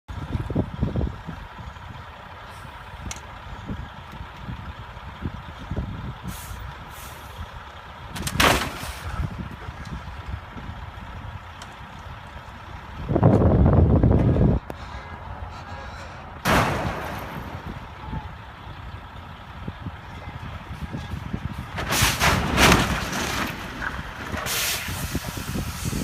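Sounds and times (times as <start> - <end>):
road vehicle rumble: 0.1 - 26.0.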